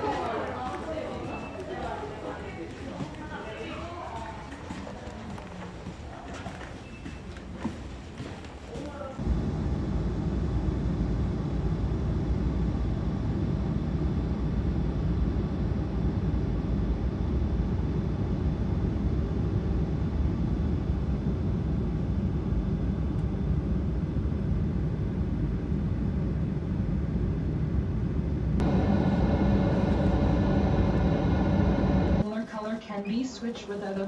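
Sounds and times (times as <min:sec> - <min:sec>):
airliner cabin rumble: 0:00.0 - 0:32.3.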